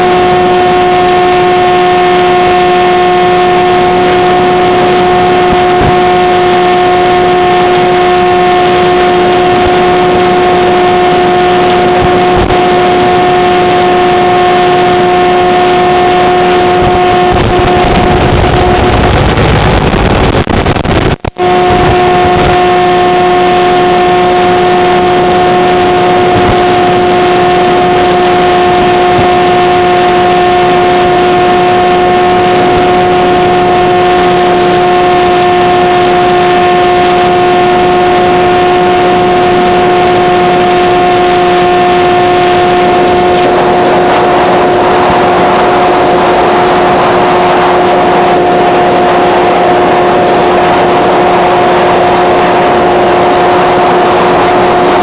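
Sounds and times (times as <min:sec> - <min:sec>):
electric motor and propeller hum: 0:00.0 - 0:55.0.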